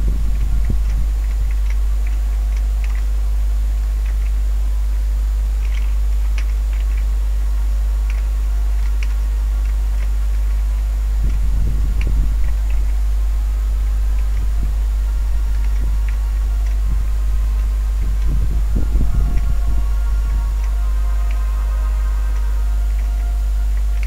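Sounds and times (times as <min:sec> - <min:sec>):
brief low rumble: 0:00.0 - 0:24.0
low electrical hum: 0:00.0 - 0:24.0.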